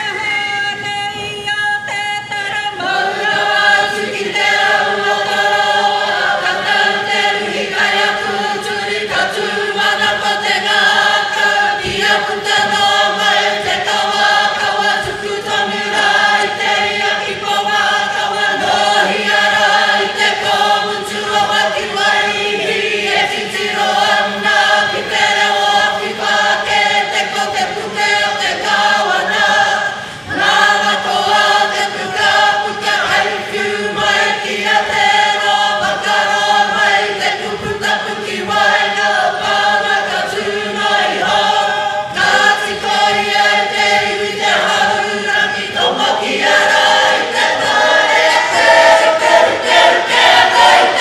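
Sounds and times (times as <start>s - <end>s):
men and women singing together: 0.0s - 51.0s.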